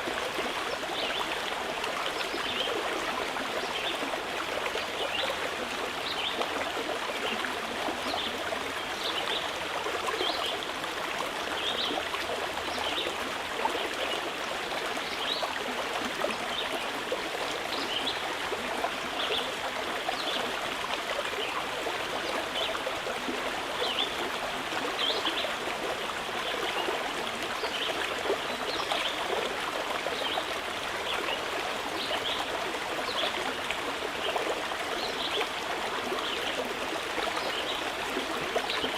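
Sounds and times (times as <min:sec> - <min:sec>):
mountain river running: 0:00.0 - 0:38.9.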